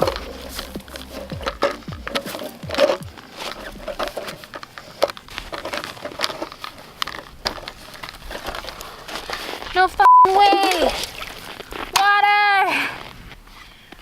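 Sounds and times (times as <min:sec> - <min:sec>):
ice crunching and scraping: 0:00.0 - 0:14.0.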